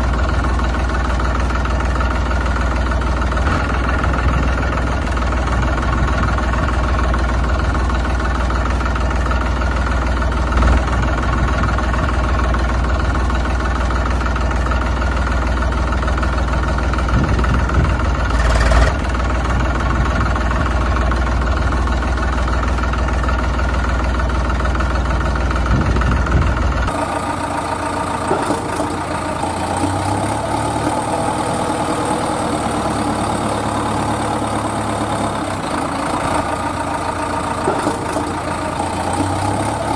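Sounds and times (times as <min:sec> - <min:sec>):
engine idling with deep drone: 0:00.0 - 0:39.9.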